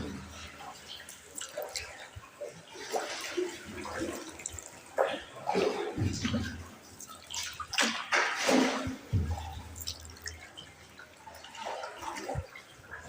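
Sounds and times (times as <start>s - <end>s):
paddles splashing in water: 0.0s - 13.0s
water dripping in tunnel: 0.0s - 13.0s.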